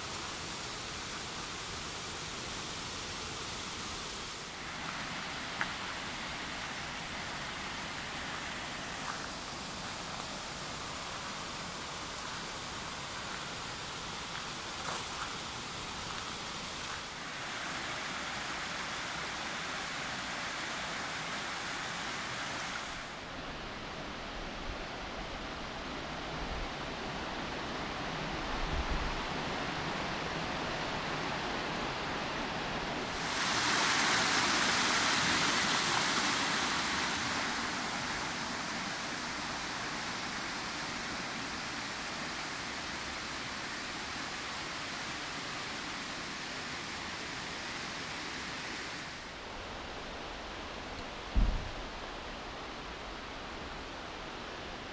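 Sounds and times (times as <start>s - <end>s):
waterfall rushing over rocks: 0.0s - 23.7s, 29.2s - 54.9s.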